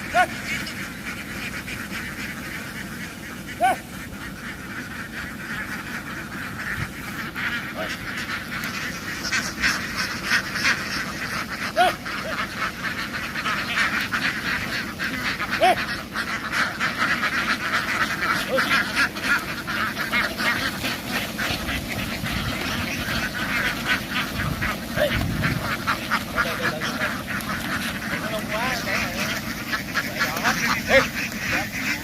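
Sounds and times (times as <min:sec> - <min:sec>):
ducks quacking: 0:00.0 - 0:32.0.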